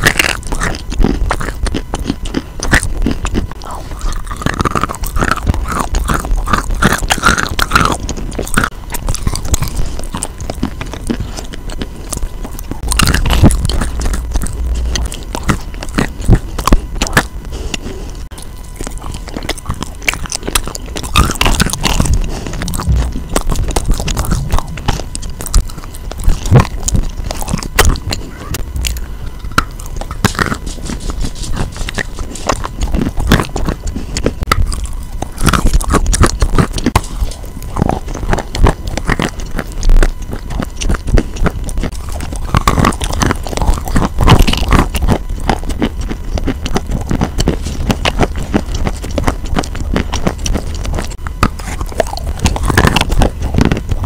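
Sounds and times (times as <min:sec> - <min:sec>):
chewing chalk crunches: 0:00.0 - 0:54.0.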